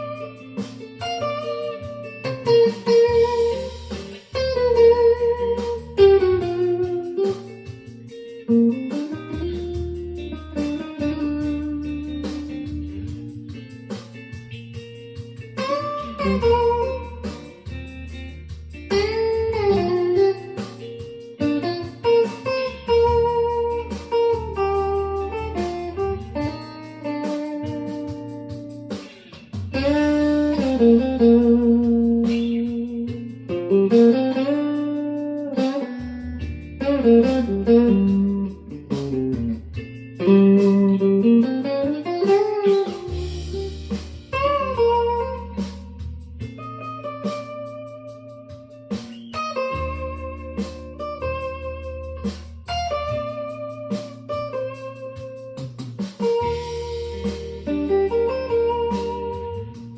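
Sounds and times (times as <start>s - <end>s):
blues guitar lead: 0.0s - 59.9s.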